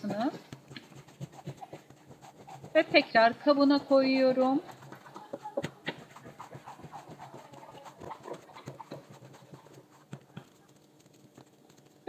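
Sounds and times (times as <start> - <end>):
dough slapping and squelching: 0.0 - 12.0.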